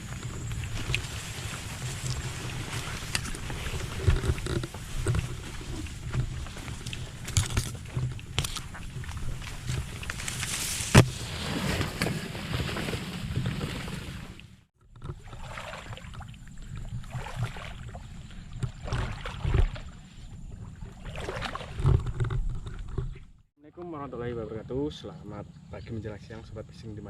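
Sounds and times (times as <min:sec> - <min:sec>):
paddle splashes: 0:00.0 - 0:23.2.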